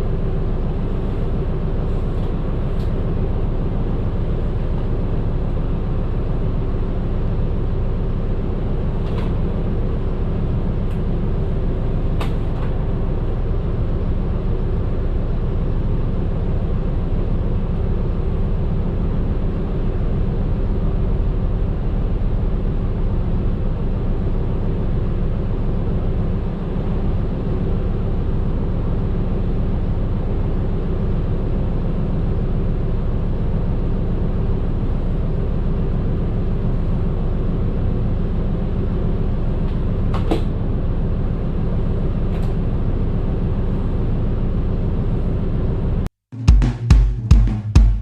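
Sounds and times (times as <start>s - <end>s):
bus engine and road drone: 0.0s - 46.5s.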